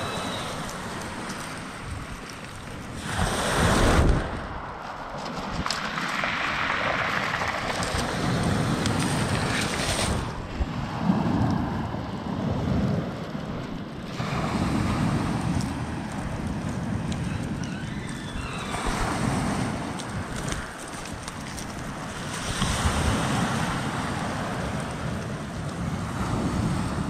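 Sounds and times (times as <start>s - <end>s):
sea waves breaking on shore: 0.0s - 27.0s
wind rumbling on microphone: 0.0s - 27.0s.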